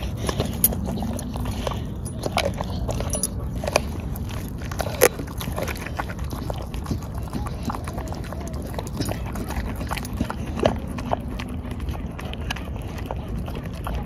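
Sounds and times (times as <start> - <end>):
dog chewing bones crunching: 0.0 - 14.0.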